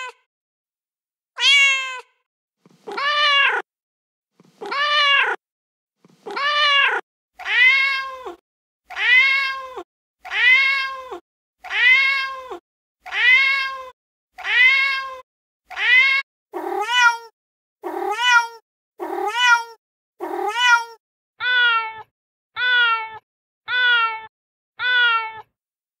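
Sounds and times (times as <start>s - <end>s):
cat meowing: 0.0s - 0.3s, 1.4s - 2.2s, 2.9s - 3.7s, 4.6s - 5.4s, 6.3s - 17.3s, 17.9s - 25.5s.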